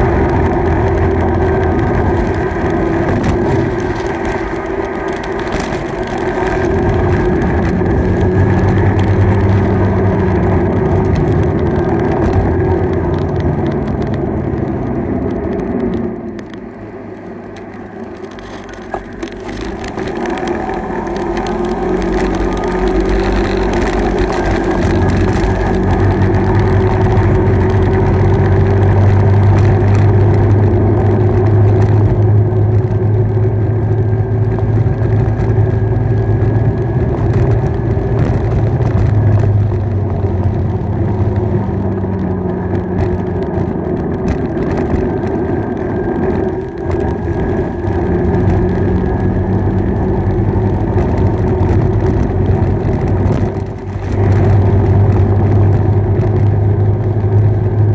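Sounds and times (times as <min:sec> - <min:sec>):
motorbike engine running: 0:00.0 - 0:57.9
road and wind noise: 0:00.0 - 0:57.9.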